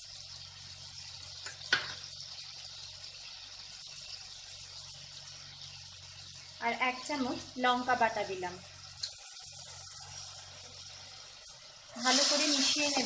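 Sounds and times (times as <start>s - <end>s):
pastes sizzling in butter: 0.0s - 13.0s.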